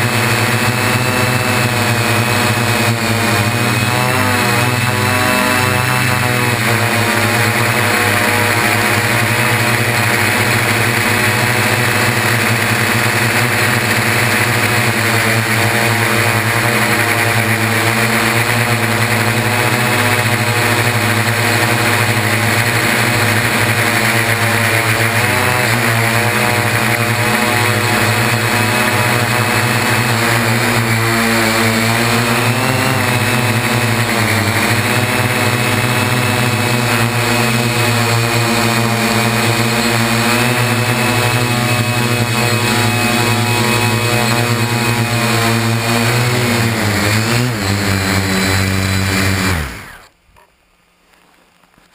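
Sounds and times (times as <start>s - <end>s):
drone propellers buzzing whine: 0.0s - 50.6s.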